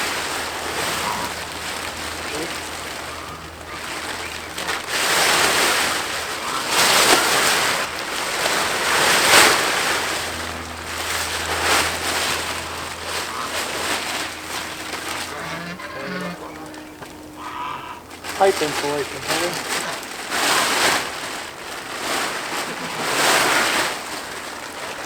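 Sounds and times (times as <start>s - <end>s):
plastic sheet rustling and crackling: 0.0s - 17.4s, 18.0s - 25.0s.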